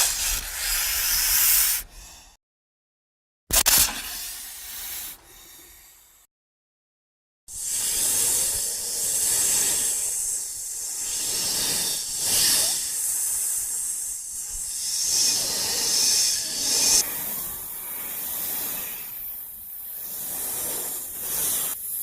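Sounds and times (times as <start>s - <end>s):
long airy snake hiss: 0.0s - 2.4s, 4.0s - 6.3s, 7.5s - 22.0s.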